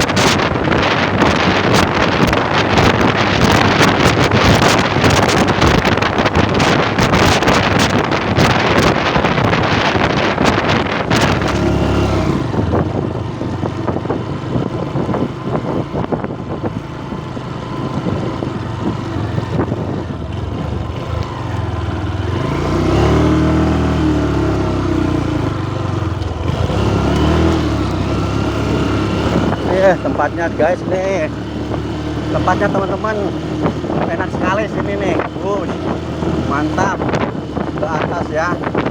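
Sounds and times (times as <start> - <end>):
motorcycle engine revving: 0.0 - 38.9
wind on microphone: 0.0 - 38.9.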